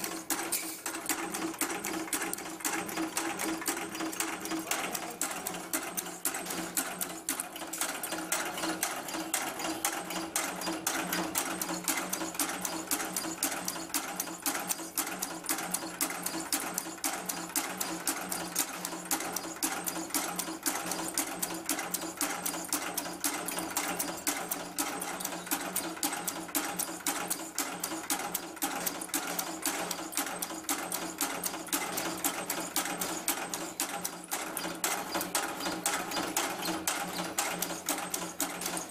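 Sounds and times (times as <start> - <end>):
machine clattering: 0.0 - 38.9.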